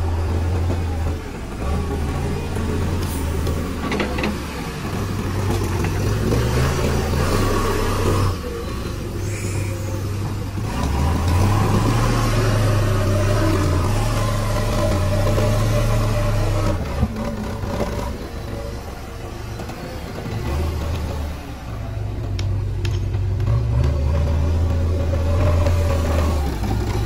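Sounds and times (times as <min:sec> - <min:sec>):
backhoe diesel engine under load: 0:00.0 - 0:27.0.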